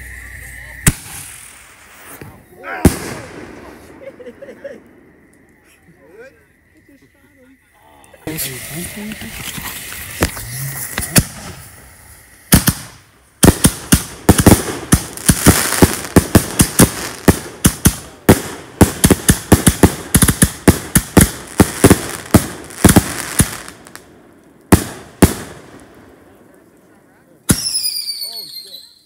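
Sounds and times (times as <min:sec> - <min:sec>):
fireworks bangs: 0:00.0 - 0:07.1, 0:08.2 - 0:29.0.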